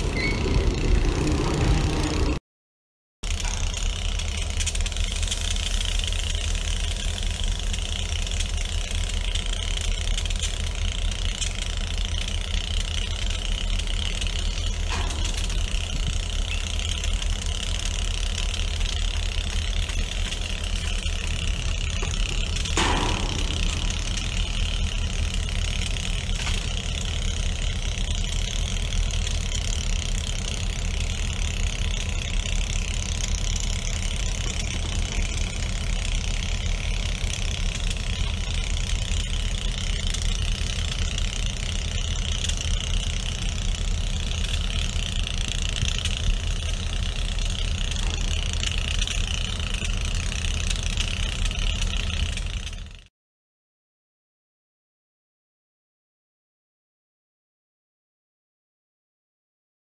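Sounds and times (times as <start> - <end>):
locomotive engine rumble: 0.0 - 2.4, 3.2 - 52.9.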